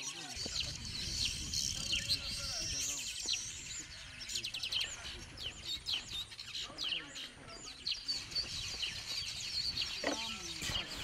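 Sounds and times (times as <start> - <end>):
birds chattering and chirping: 0.0 - 11.0.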